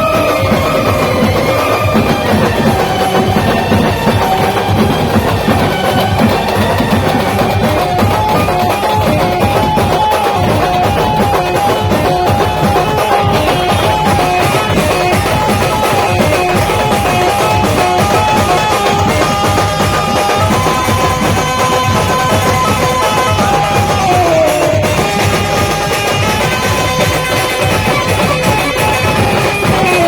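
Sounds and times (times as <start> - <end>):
band melody line: 0.0 - 30.0
fast drumming: 0.0 - 30.0.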